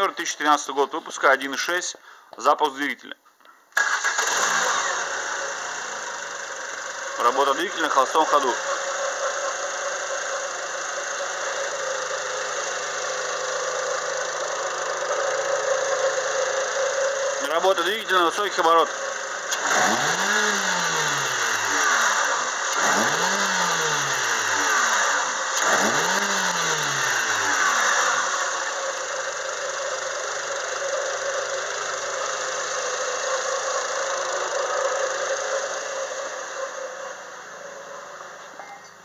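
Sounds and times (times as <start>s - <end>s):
car engine revving: 3.8s - 38.4s
car engine idling: 3.8s - 39.0s.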